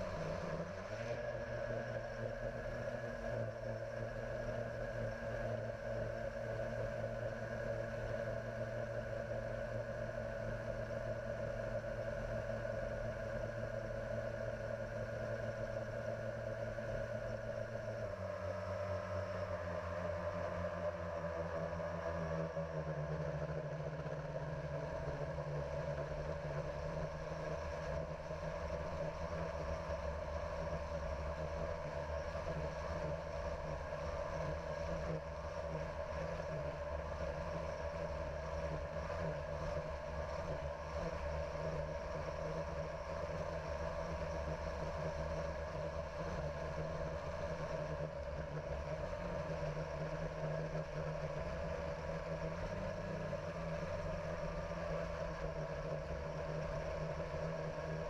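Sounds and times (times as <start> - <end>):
drone motors humming: 0.0 - 58.0.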